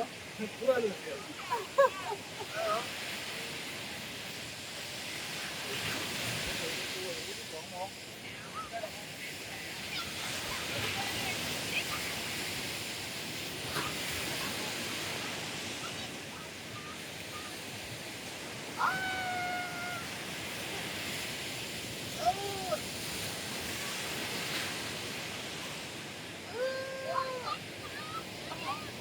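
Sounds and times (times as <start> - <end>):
sea surf breaking on beach: 0.0 - 29.0.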